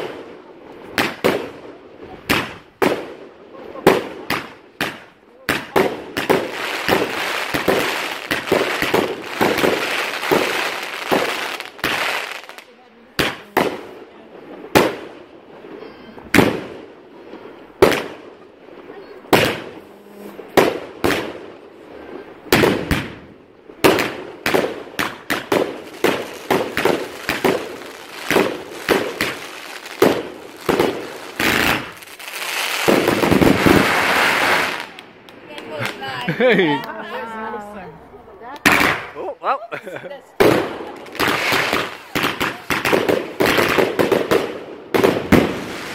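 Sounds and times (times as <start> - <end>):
firework bangs: 0.0 - 36.4, 38.6 - 39.2, 40.4 - 45.9
firework crackle: 0.0 - 36.8, 40.3 - 45.9.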